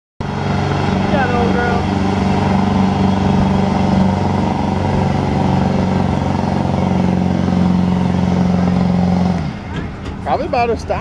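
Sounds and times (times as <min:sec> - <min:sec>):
diesel pickup idling: 0:00.2 - 0:11.0.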